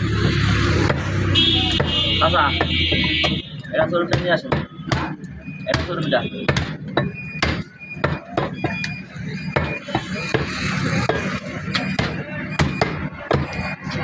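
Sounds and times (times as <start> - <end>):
cleaver chopping meat: 0.2 - 3.5, 4.1 - 9.0, 9.6 - 14.0.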